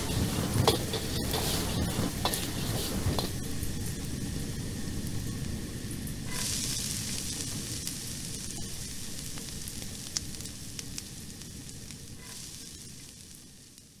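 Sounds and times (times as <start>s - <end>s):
hissing crackling noise: 0.0s - 14.0s.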